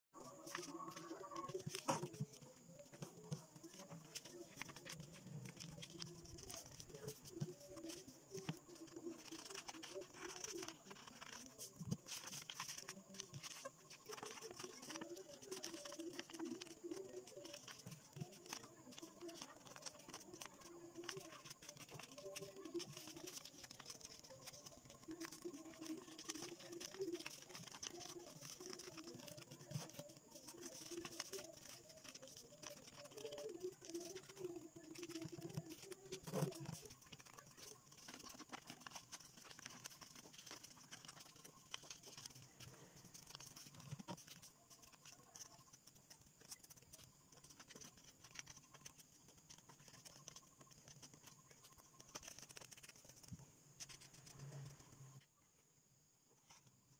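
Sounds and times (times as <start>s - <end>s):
paper rustling and creasing: 0.2s - 55.2s.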